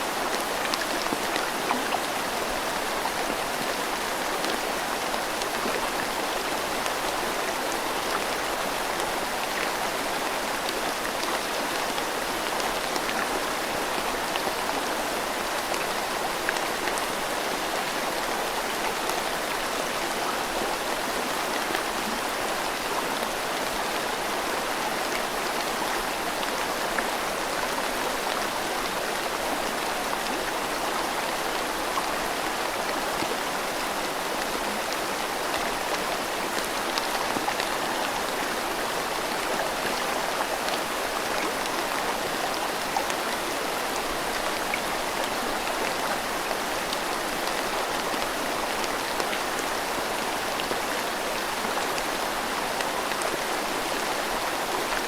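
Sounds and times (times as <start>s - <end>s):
river flowing: 0.0s - 55.0s
steady rain falling: 0.0s - 55.0s.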